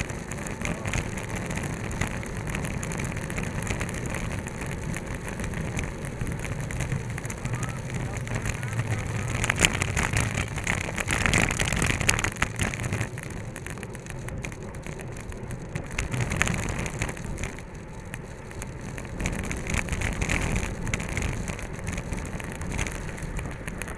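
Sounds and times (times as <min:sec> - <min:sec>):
bicycle rattles and clicks: 0:00.0 - 0:23.9
road rumble: 0:00.0 - 0:23.9
wind rushing over microphone: 0:00.0 - 0:23.9.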